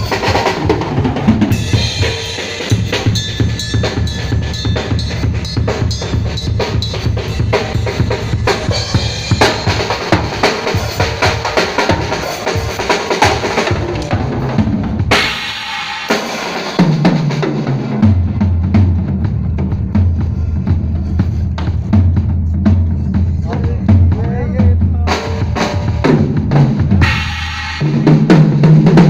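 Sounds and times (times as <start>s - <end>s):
drum kit groove: 0.0s - 29.0s.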